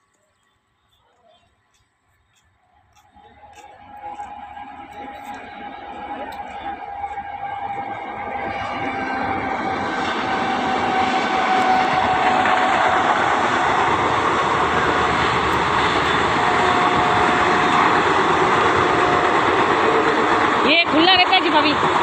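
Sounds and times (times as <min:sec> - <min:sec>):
passenger train rushing past: 0:02.7 - 0:22.0.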